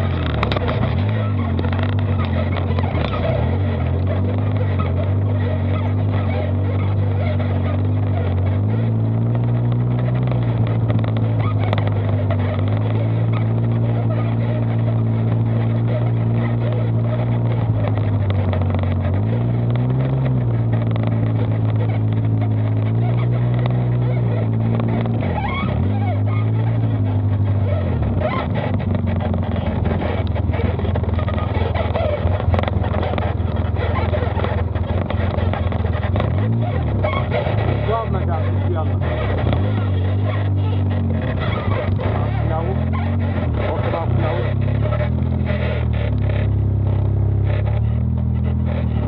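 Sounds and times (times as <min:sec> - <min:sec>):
off-road vehicle engine revving: 0:00.0 - 0:49.0.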